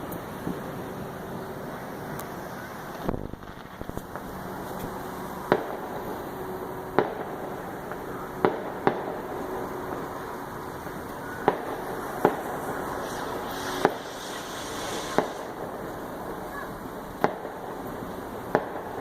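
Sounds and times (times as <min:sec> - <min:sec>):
fireworks bangs: 0:00.0 - 0:19.0
steady background hiss: 0:00.0 - 0:19.0.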